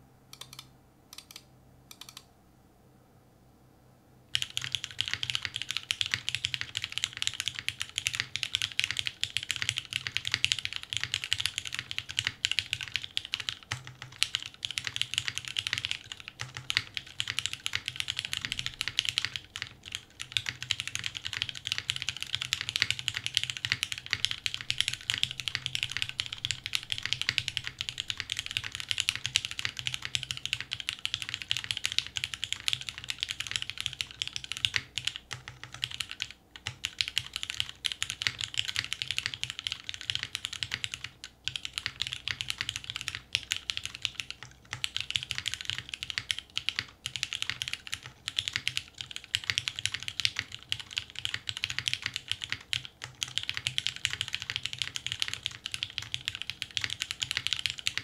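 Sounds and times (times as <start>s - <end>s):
mechanical keyboard typing: 0.3s - 2.3s, 4.3s - 58.0s.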